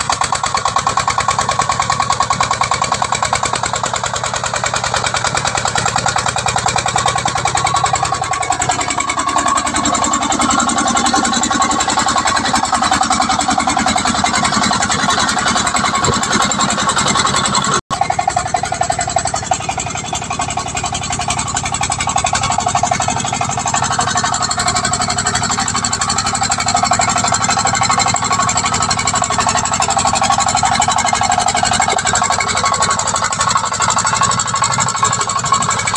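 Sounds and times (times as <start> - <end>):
diesel engine chugging: 0.0 - 35.9.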